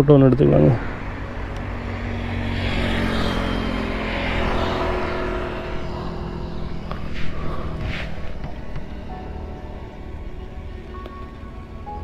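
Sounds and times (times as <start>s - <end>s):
vehicle passing on highway: 0.0s - 12.0s.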